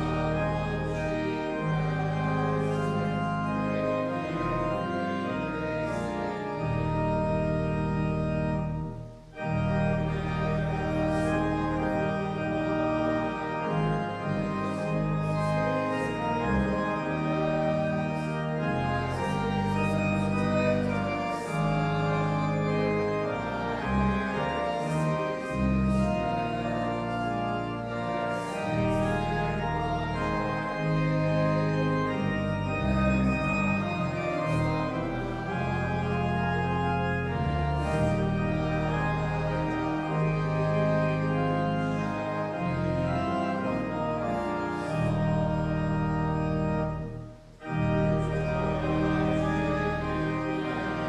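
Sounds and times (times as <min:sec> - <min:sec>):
church organ playing: 0:00.0 - 0:51.0.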